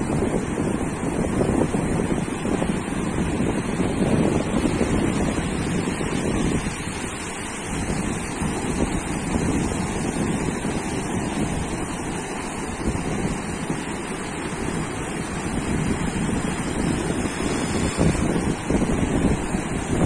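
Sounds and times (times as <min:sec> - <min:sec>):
ocean surf on sandy beach: 0:00.0 - 0:20.0
wind buffeting microphone: 0:00.0 - 0:20.0.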